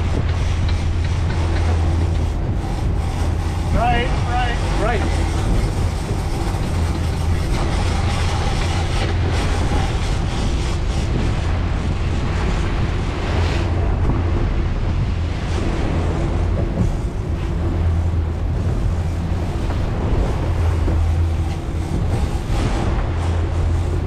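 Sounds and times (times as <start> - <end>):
outboard motors humming: 0.0 - 24.0
water rushing and splashing: 0.0 - 24.0
wind buffeting microphone: 0.0 - 24.0.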